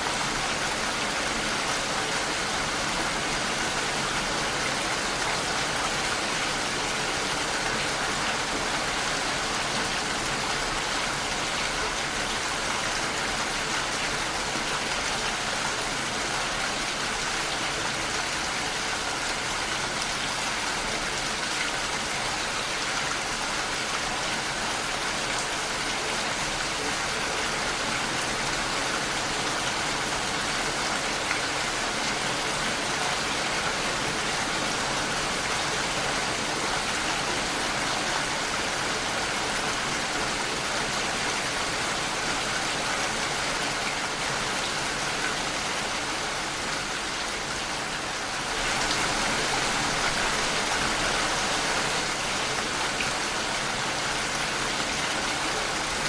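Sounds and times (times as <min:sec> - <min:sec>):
rain against a window: 0:00.0 - 0:56.0.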